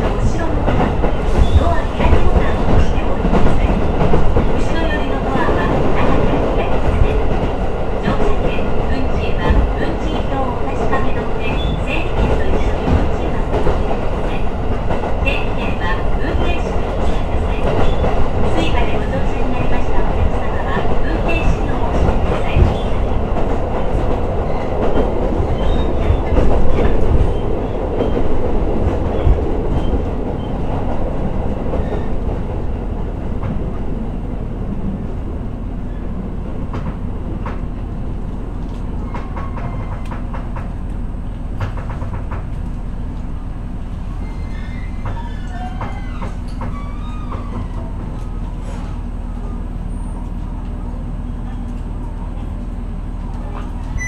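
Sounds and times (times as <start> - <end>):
diesel railcar hum: 0.0 - 54.0.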